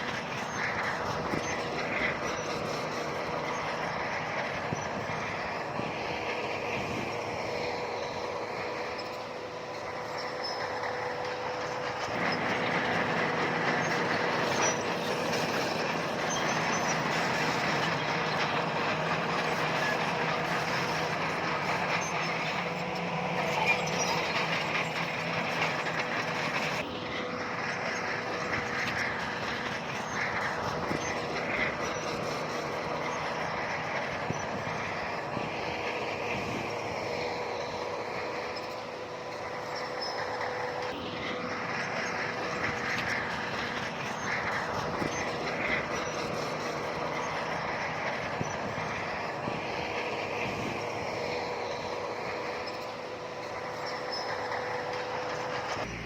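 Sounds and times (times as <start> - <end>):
bulldozer diesel engine under load: 0.0 - 56.0
steel tracks clanking: 0.0 - 56.0.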